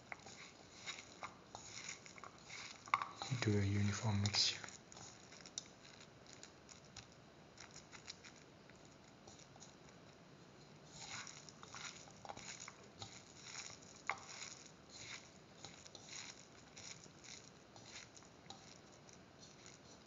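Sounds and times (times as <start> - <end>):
hand squishing wet batter: 0.0 - 10.0, 10.8 - 20.0.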